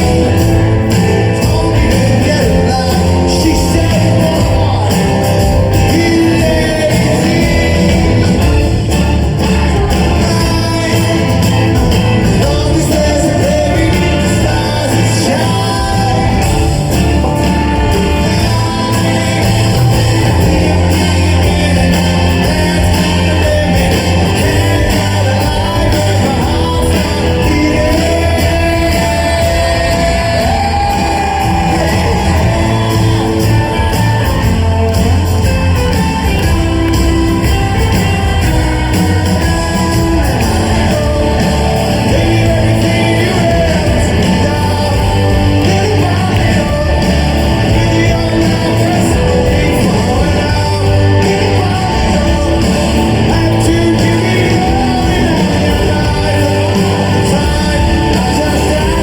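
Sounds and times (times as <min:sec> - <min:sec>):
live rock band playing: 0:00.0 - 0:59.0
person singing: 0:00.0 - 0:59.0.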